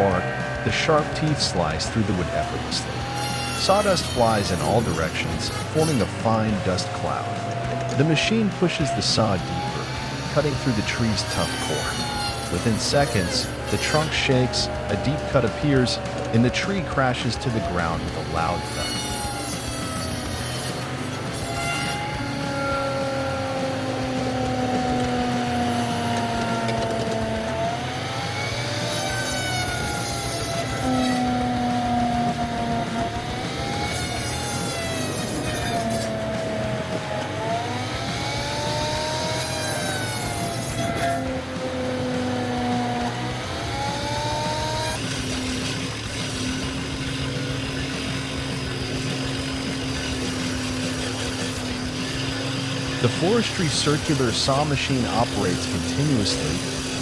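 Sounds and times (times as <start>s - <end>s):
forestry machine engine and saw: 0.0s - 57.0s.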